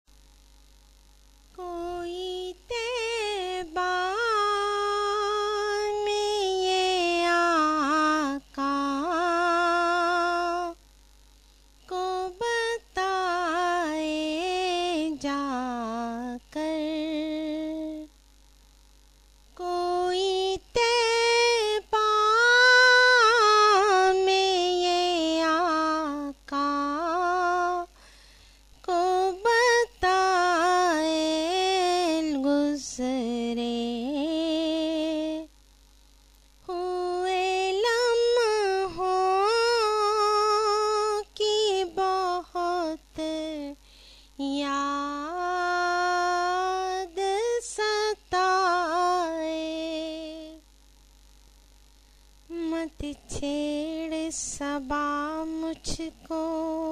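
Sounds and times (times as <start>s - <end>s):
woman singing unaccompanied: 1.5s - 10.8s, 11.8s - 18.2s, 19.5s - 35.6s, 36.6s - 50.7s, 52.4s - 56.9s.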